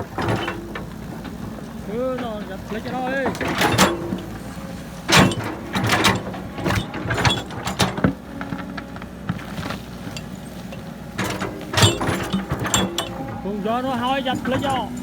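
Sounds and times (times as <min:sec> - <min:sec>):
diesel engine droning: 0:00.0 - 0:15.0
metal clanks and rattles: 0:00.0 - 0:15.0.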